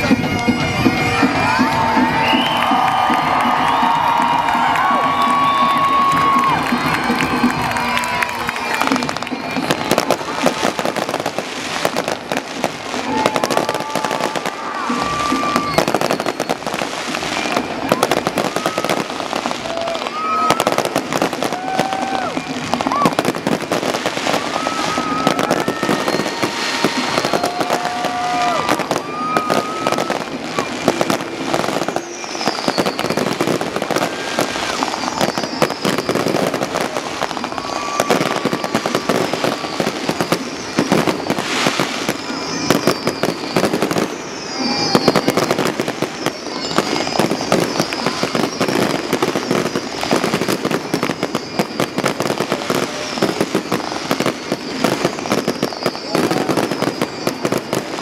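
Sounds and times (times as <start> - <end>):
firework whistles: 0.0 - 58.0
fireworks bursting and crackling: 0.0 - 58.0.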